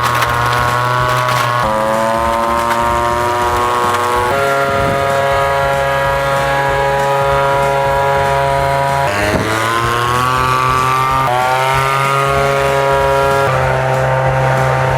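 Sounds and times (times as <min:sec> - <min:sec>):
leaf blower engine revving: 0:00.0 - 0:14.9.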